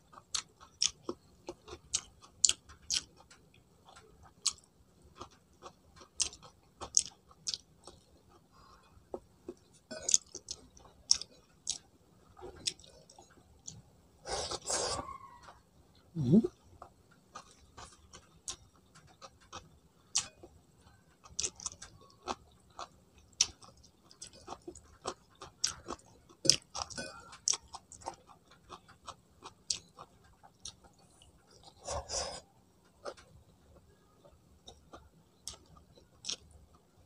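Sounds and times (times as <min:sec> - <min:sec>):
chewing and lip-smacking: 0:00.0 - 0:13.8, 0:16.6 - 0:36.9.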